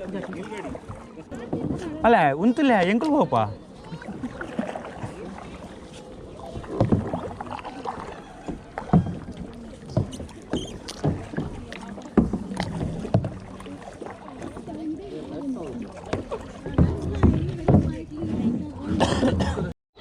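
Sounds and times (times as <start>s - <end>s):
paddles splashing in water: 0.0s - 19.7s.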